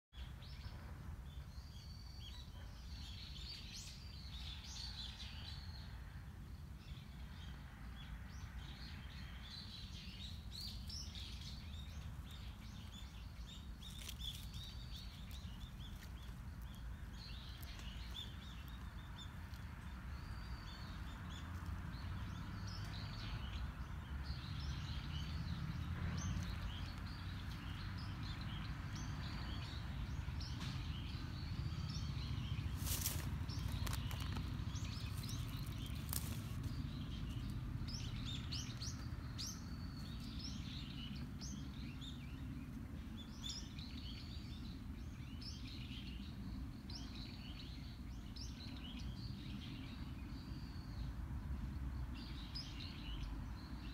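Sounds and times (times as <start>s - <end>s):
small birds chirping: 6.8s - 53.9s.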